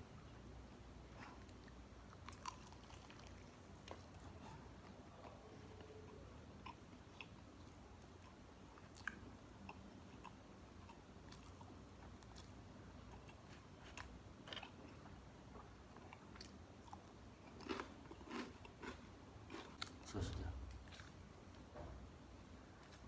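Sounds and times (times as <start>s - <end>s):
person chewing crispy food: 1.1s - 4.2s, 5.3s - 20.1s, 20.7s - 21.6s.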